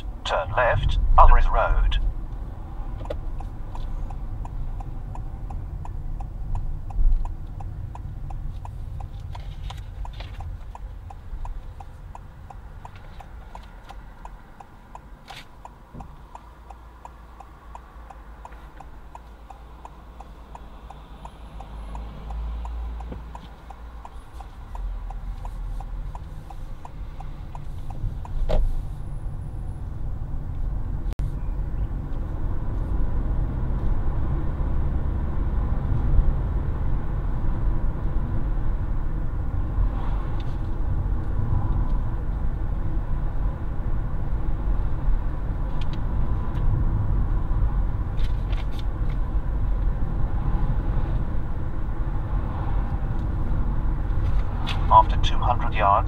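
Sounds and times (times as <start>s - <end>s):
engine and road rumble: 0.0s - 56.0s
turn signal ticking: 0.0s - 56.0s.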